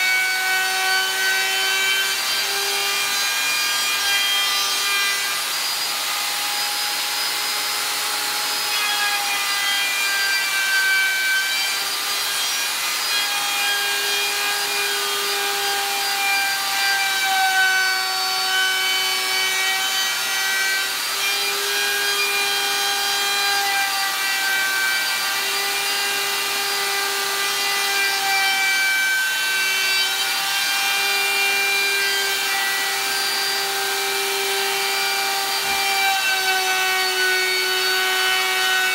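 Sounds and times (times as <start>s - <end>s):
electric router whining: 0.0s - 38.9s.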